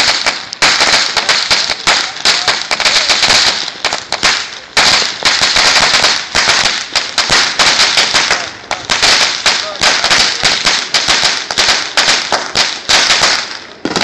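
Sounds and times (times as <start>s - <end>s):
firecrackers cracking: 0.0s - 14.0s.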